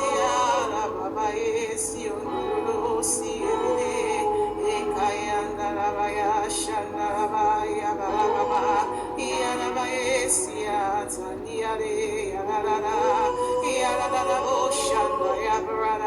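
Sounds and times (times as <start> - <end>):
held chords: 0.0 - 16.0
person singing with vibrato: 0.0 - 16.0.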